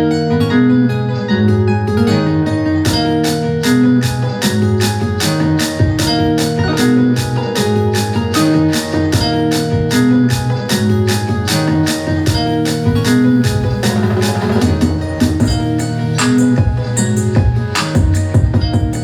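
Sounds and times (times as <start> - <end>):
keyboard chords over a beat: 0.0 - 19.0.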